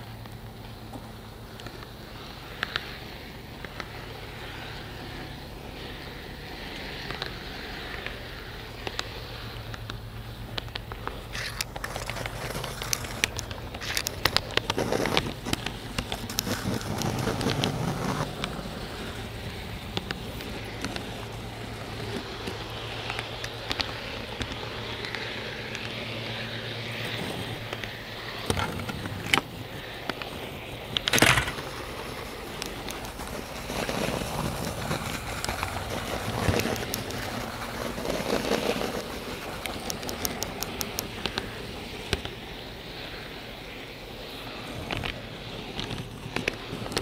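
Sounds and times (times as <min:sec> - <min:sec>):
low hum: 0:00.0 - 0:47.0
model train car rolling on track: 0:00.0 - 0:47.0
scattered clicks: 0:00.0 - 0:47.0.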